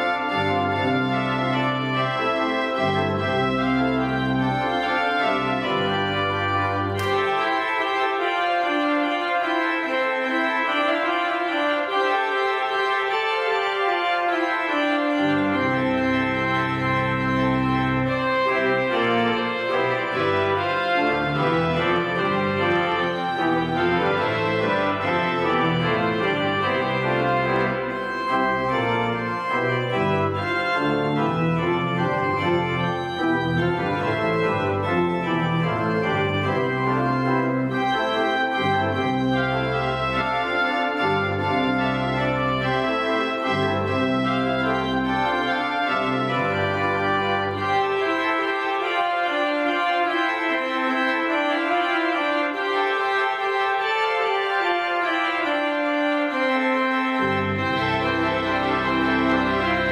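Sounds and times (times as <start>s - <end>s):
organ playing chords: 0.0s - 59.9s.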